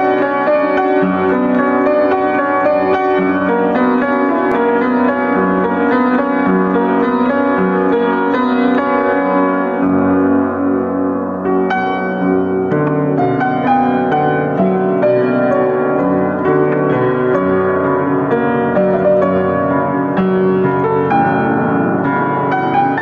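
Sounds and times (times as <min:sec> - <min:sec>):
solo upright piano: 0:00.0 - 0:23.0.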